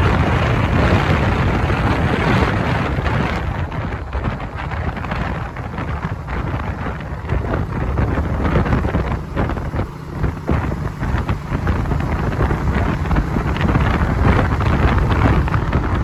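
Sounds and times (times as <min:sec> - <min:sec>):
road and traffic rumble: 0:00.0 - 0:16.0
wind buffeting microphone: 0:00.0 - 0:16.0.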